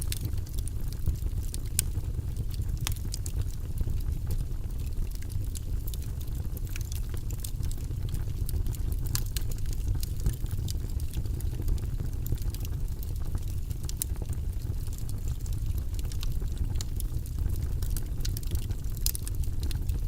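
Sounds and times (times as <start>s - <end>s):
burning wood crackling and popping: 0.0s - 20.0s
fire flames rumbling: 0.0s - 20.0s.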